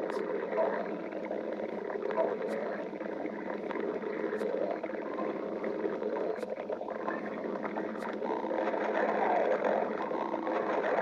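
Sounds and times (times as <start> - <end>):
stomach growling: 0.0 - 11.0.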